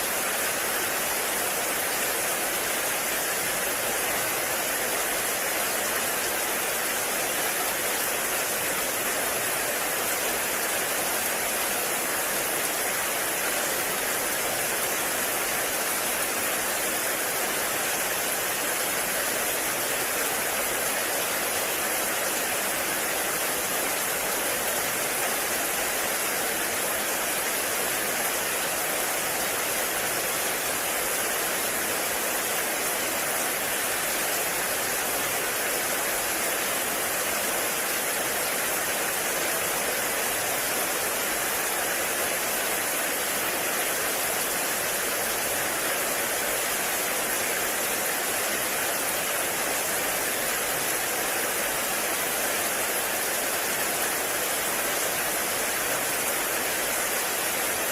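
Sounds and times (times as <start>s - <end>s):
heavy rain in a forest: 0.0s - 57.9s.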